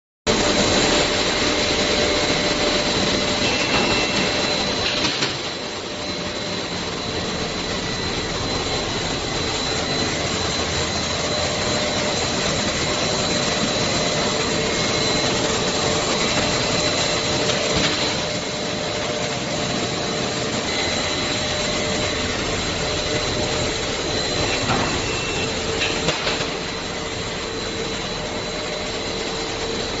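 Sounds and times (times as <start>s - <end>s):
high-pitched machine whine: 0.3s - 30.0s.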